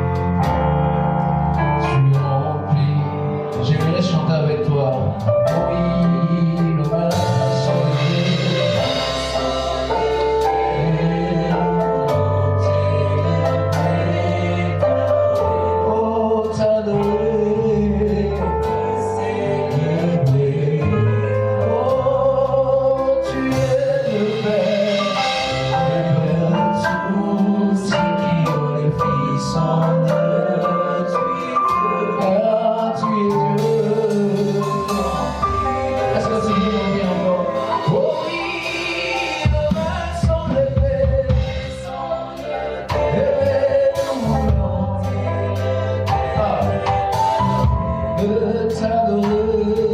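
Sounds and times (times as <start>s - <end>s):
gospel band playing: 0.0s - 49.9s
group singing: 5.6s - 49.9s.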